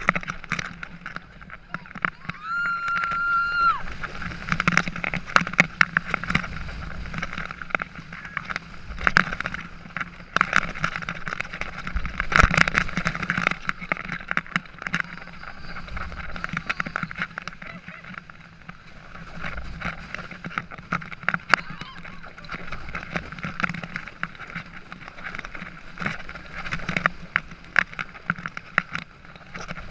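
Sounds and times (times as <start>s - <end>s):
roller coaster train on track: 0.0s - 29.9s
sharp clacks and rattles: 0.0s - 29.9s.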